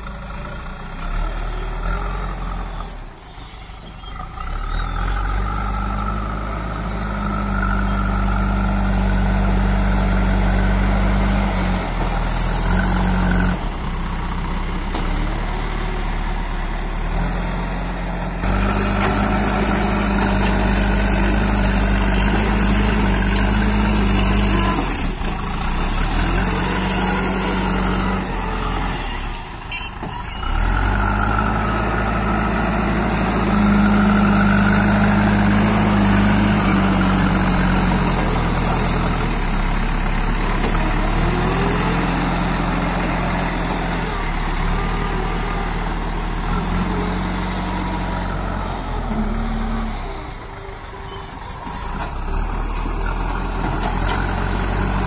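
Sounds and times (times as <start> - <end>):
diesel engine running: 0.0 - 55.0
loader bucket pushing soil: 1.0 - 55.0.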